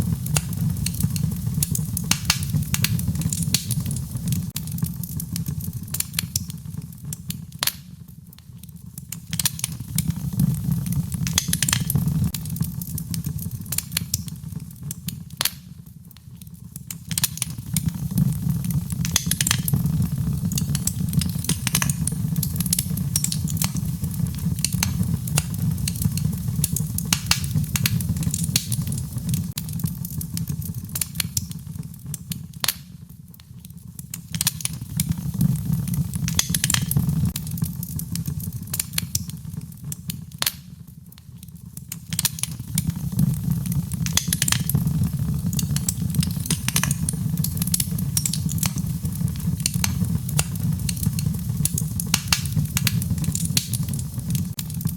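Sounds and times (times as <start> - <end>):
fireplace fire crackling: 0.0 - 54.9.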